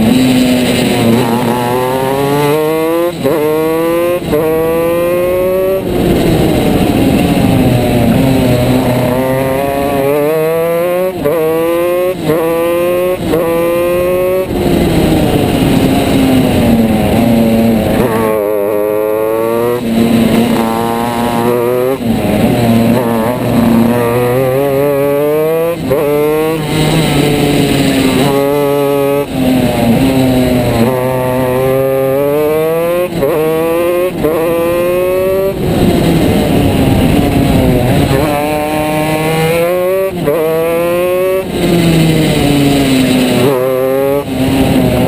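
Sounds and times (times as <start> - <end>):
kart engine revving: 0.0 - 45.0.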